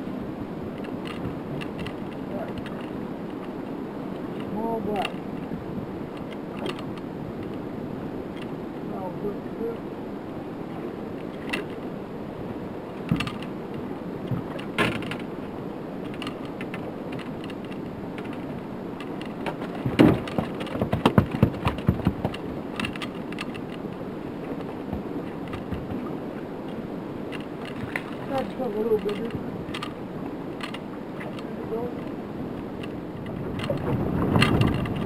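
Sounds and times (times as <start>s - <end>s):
wind and water noise: 0.0s - 35.0s.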